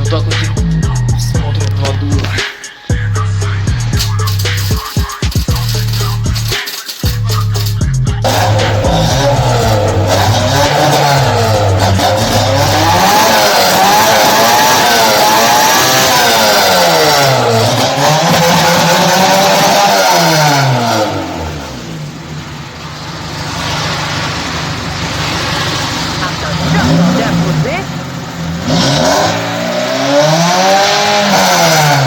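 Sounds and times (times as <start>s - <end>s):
car engine revving and idling: 0.0s - 32.0s.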